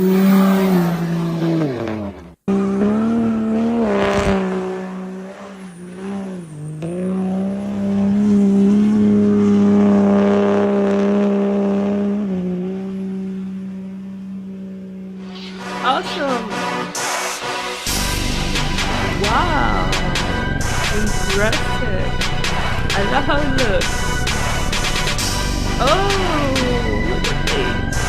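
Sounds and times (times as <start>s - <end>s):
diesel truck engine revving: 0.0s - 28.0s.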